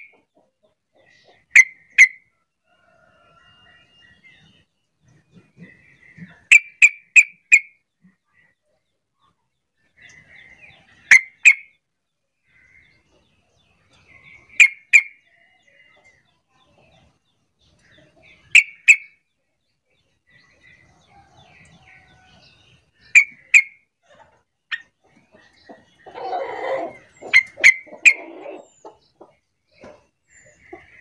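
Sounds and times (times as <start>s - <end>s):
faint soft bird chatter: 0.0s - 31.0s.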